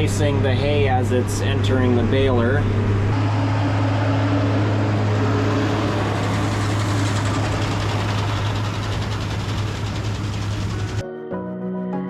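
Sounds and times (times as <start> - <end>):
baler machinery noise: 0.0 - 11.0
tractor engine droning: 0.0 - 11.0.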